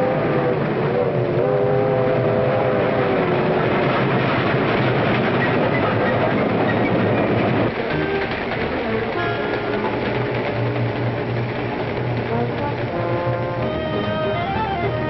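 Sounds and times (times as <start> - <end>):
locomotive whistle chord: 0.0 - 3.6, 5.5 - 15.0
train rumble and clatter: 0.0 - 15.0.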